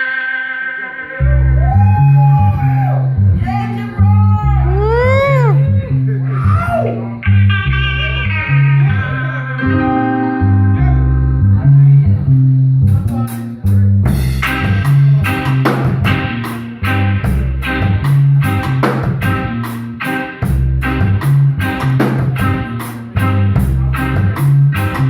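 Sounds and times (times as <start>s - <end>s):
sustained guitar notes: 0.0s - 25.0s
walking bass guitar: 1.1s - 25.0s.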